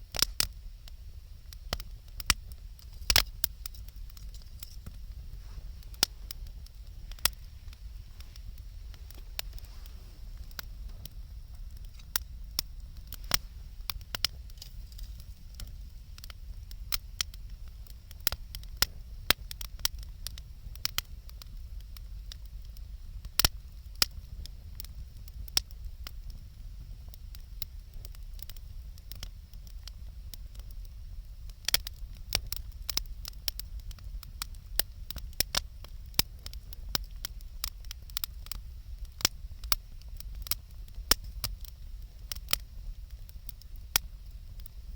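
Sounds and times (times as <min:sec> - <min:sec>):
bonfire crackling and popping: 0:00.0 - 0:44.9.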